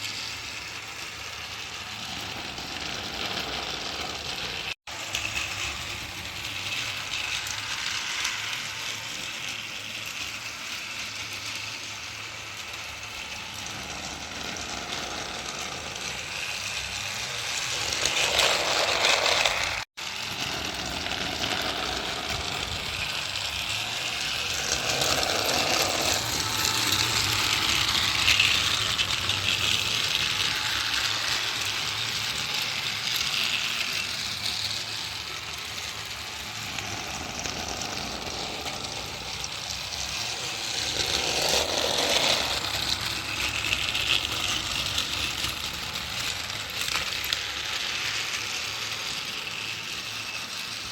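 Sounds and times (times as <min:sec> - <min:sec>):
toy cars rattling: 0:00.0 - 0:50.9
toy train motor running: 0:00.0 - 0:50.9.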